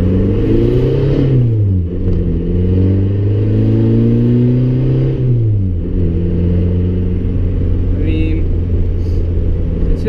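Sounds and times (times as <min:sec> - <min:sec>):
diesel car engine accelerating: 0:00.0 - 0:10.0.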